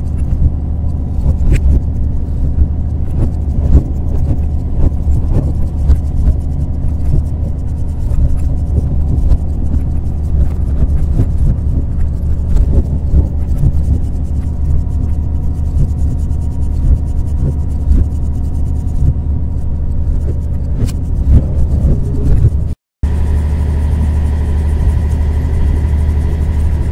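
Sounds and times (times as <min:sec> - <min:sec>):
constant hum: 0:00.0 - 0:26.9
diesel locomotive engine rumble: 0:00.0 - 0:26.9.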